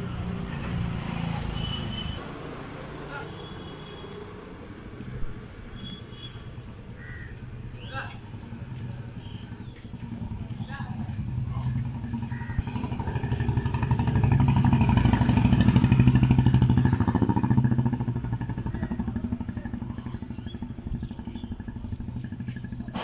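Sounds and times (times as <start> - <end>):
motorcycle passing by: 0.0 - 5.6, 6.5 - 23.0.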